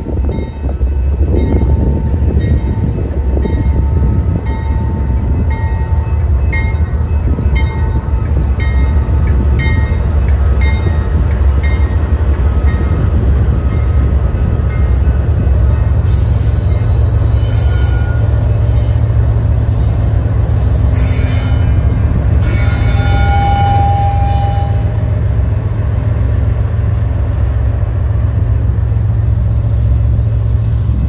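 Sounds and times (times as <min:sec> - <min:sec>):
diesel locomotives rumbling: 0:00.0 - 0:31.0.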